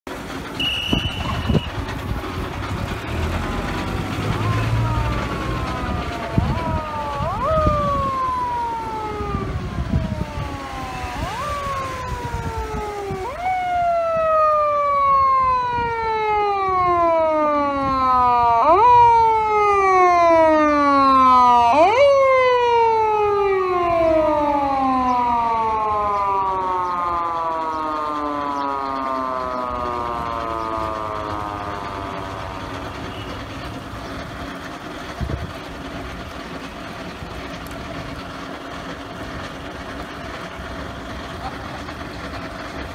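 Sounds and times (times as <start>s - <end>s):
mechanical siren wailing: 0.6s - 42.9s.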